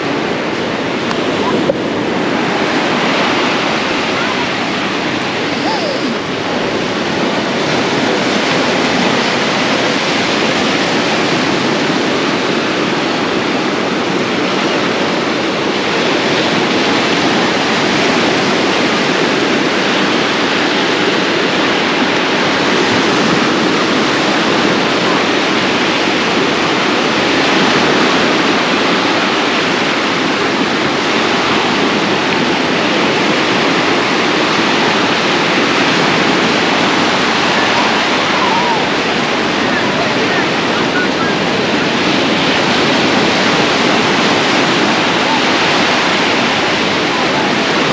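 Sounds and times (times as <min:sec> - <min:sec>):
waves breaking: 0:00.0 - 0:47.9.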